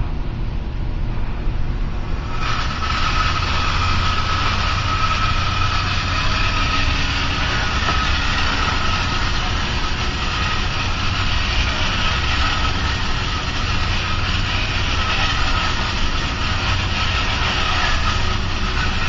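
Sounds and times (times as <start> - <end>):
low rumble: 0.0 - 19.0
toy motor whirring: 2.2 - 19.0.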